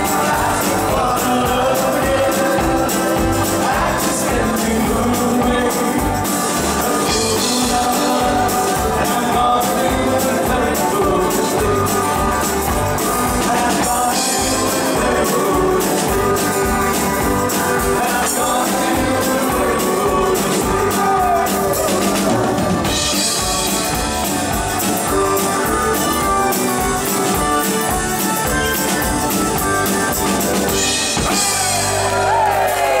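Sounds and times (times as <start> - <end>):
bending guitar notes: 0.0 - 33.0
rock band playing: 0.0 - 33.0.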